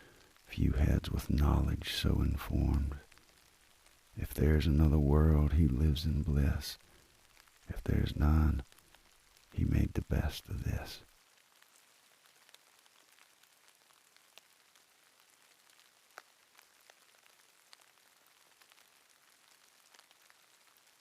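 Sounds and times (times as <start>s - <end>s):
light drizzle hiss: 0.0s - 21.0s.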